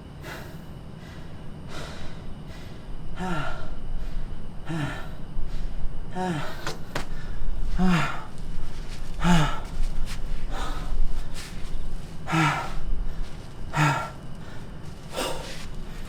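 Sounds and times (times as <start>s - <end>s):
man breathing hard: 0.1s - 16.0s.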